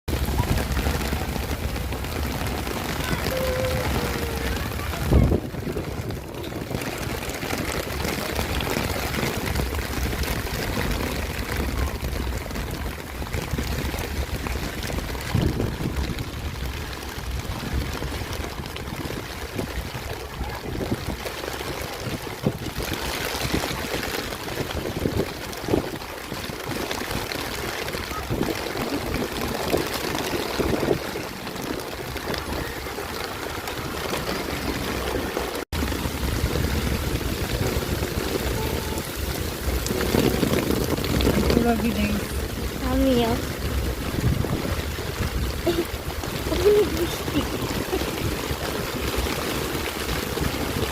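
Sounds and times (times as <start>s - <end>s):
heavy rain falling: 0.1s - 50.9s.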